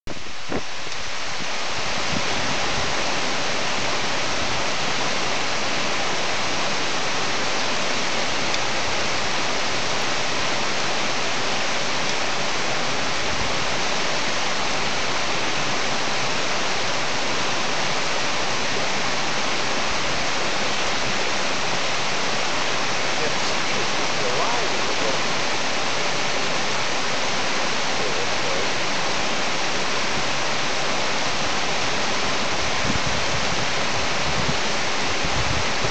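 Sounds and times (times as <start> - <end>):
waterfall rushing and splashing: 0.1 - 35.9.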